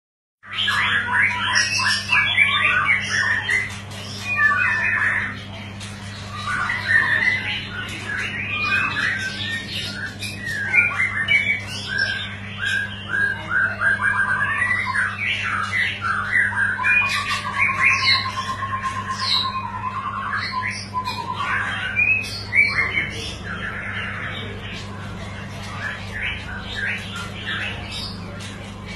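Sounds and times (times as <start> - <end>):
songbird whistling and trilling: 0.4 - 5.4, 6.1 - 24.5
steady low hum: 0.4 - 28.9.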